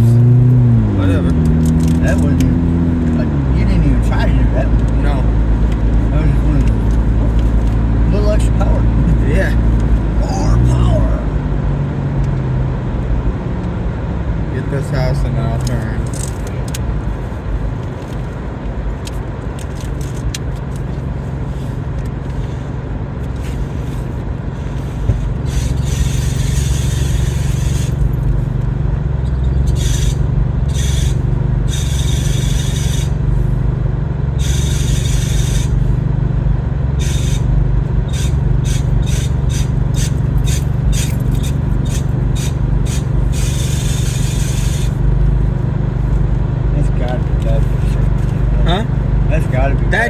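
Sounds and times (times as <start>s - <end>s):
car engine and road rumble: 0.0s - 50.0s
suspension squeaking: 0.0s - 50.0s.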